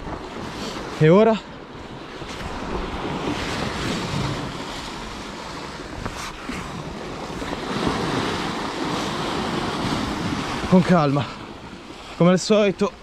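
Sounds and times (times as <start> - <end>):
waves washing against rocks: 0.0 - 13.0
wind on microphone: 1.7 - 12.2.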